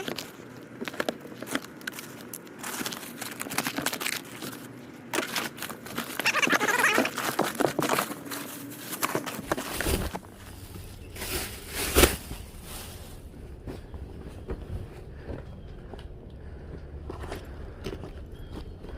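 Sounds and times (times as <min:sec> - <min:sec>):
clothes and paper rustling: 0:00.0 - 0:18.9.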